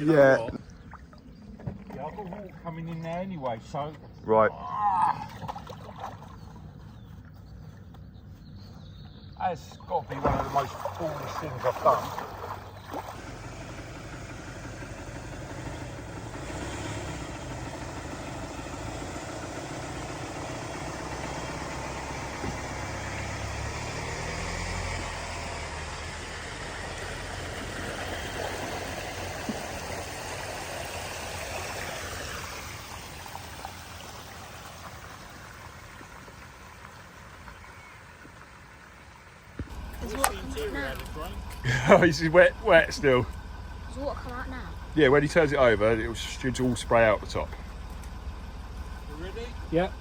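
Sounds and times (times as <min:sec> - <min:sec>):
vehicle engine running: 0:06.3 - 0:50.0.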